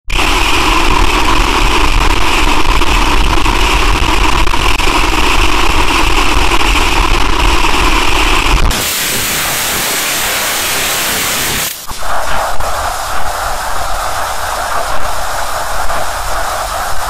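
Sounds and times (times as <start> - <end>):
harsh distorted noise: 0.1 - 17.0.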